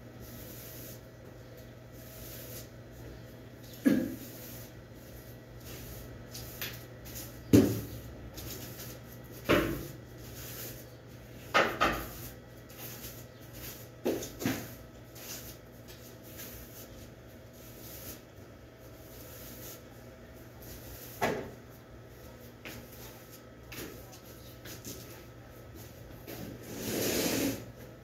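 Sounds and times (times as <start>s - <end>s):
broom sweeping a tiled floor: 0.1s - 27.9s.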